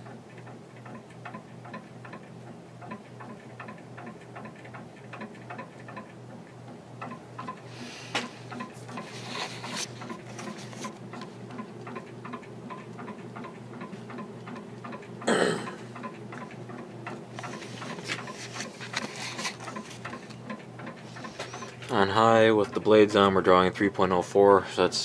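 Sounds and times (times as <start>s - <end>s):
ceiling fan motor hum: 0.0s - 25.0s
fan rhythmic ticking: 0.0s - 25.0s.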